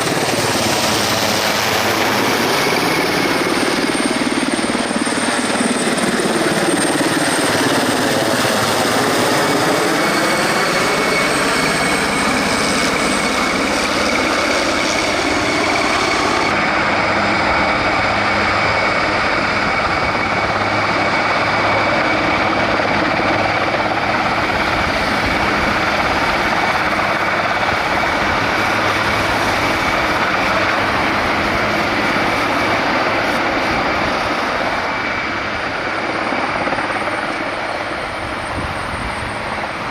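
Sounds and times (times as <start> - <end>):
turbine aircraft engine whine: 0.0 - 39.9.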